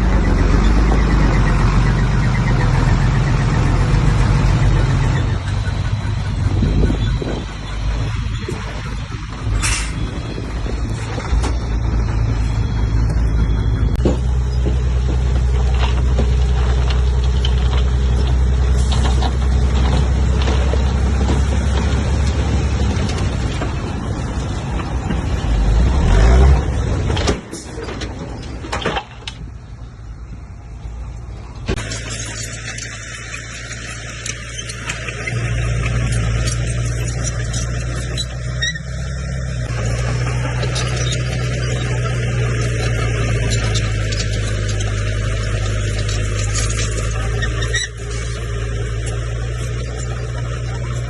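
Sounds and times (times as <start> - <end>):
bulldozer diesel engine: 0.0 - 51.0.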